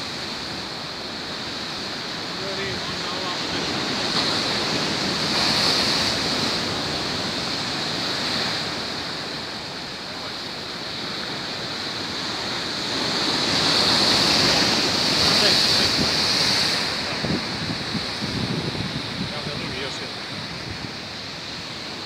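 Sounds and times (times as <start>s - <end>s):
surf breaking on rocks: 0.0s - 22.0s
wave crashing over wall: 0.0s - 22.0s.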